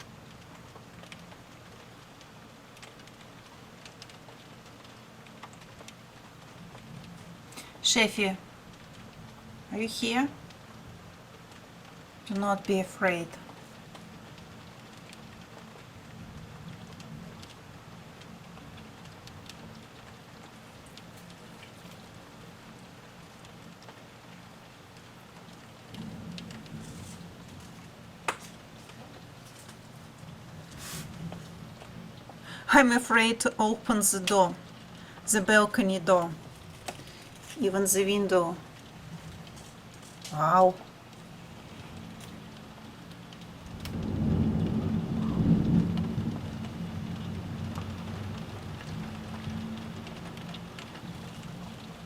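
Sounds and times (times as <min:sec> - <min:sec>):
light rain falling: 0:00.0 - 0:52.0
low steady hum: 0:00.0 - 0:52.0.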